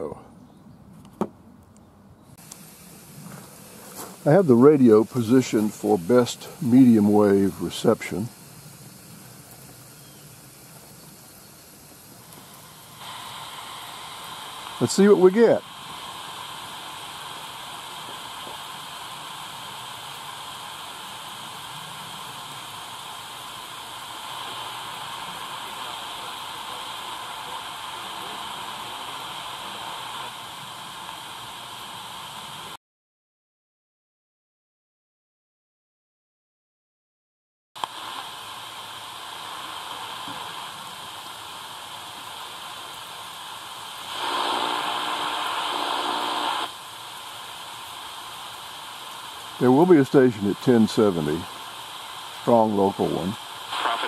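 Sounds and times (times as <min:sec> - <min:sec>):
radio static hissing: 0:02.3 - 0:32.8, 0:37.8 - 0:54.0.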